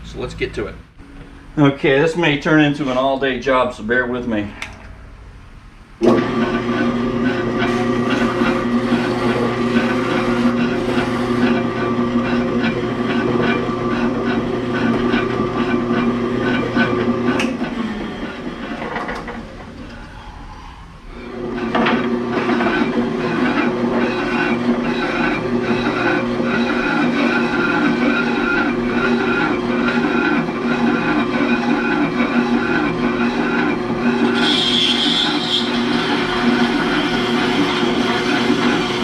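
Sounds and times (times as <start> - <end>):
bandsaw motor winding down: 6.0 - 39.0
bandsaw running: 6.0 - 39.0.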